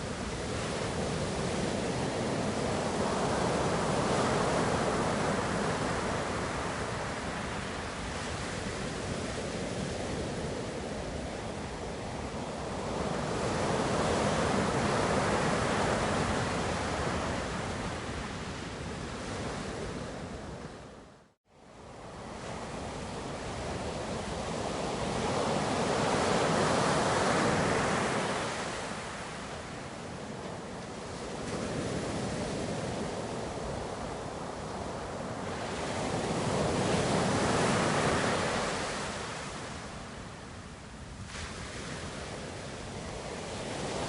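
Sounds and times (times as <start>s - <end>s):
ocean waves washing onto shore: 0.0s - 44.0s.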